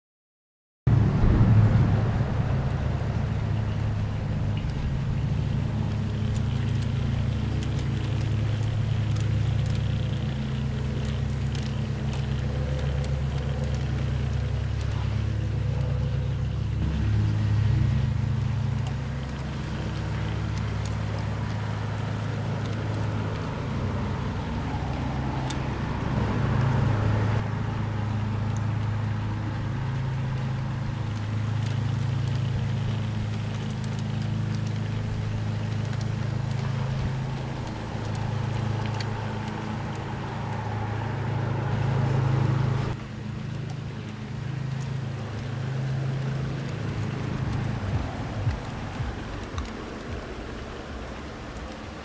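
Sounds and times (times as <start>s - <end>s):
model locomotive drone: 0.9s - 52.0s
wheels rolling on rails: 0.9s - 52.0s.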